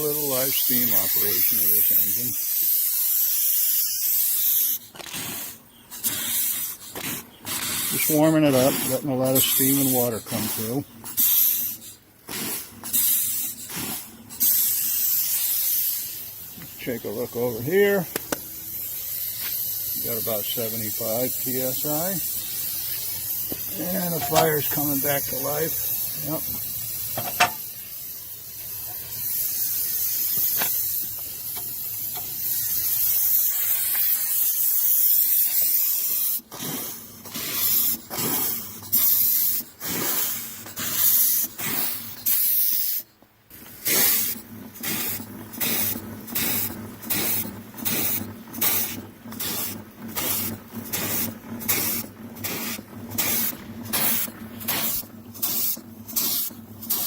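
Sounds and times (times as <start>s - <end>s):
steam engine chuffing: 0.0s - 42.9s, 43.5s - 57.0s
steam hissing: 0.0s - 57.0s.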